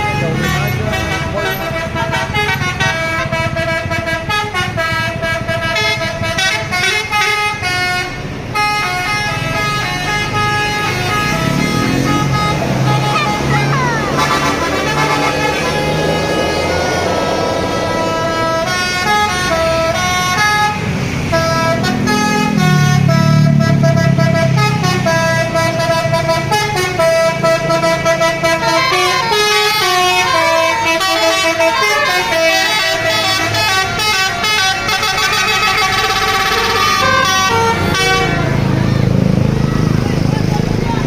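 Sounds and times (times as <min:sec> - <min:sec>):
musical air horn tune: 0:00.0 - 0:38.7
bus engine running: 0:00.0 - 0:41.0.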